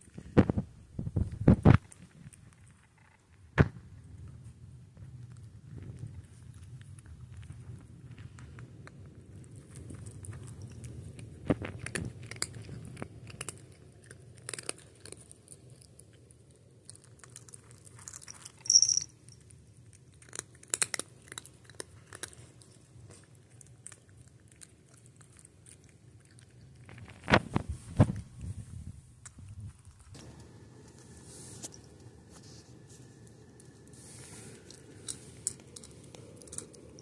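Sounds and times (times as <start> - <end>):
cat crunching dry kibble: 0.0 - 37.0.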